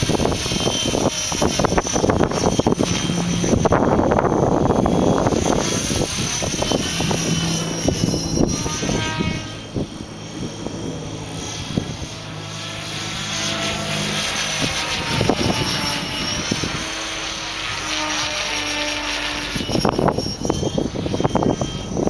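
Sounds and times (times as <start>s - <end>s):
model helicopter rotor drone: 0.0s - 22.0s
wind noise: 0.0s - 22.0s.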